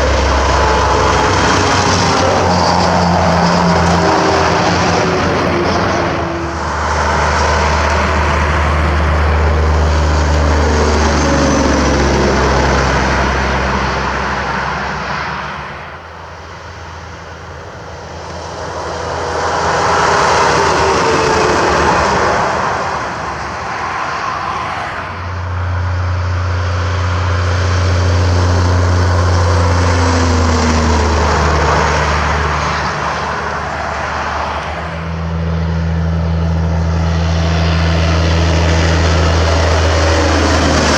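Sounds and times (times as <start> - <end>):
trucks passing on highway: 0.0 - 40.9.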